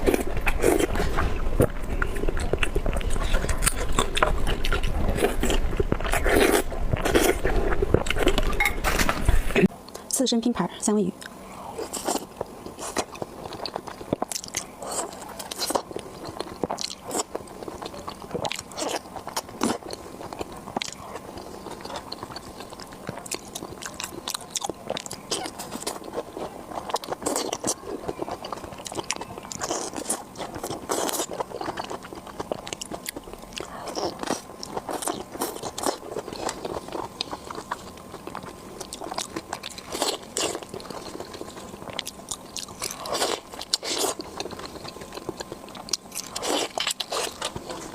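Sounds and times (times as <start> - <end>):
biting and chewing food: 0.0 - 10.1, 11.2 - 47.9.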